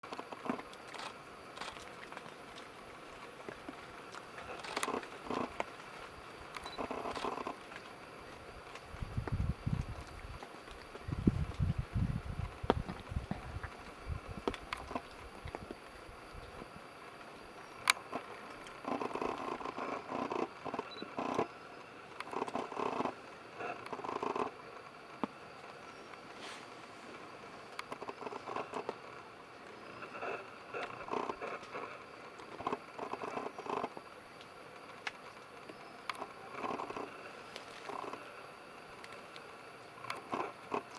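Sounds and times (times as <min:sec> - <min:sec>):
soft rustles and clicks: 0:00.1 - 0:38.3.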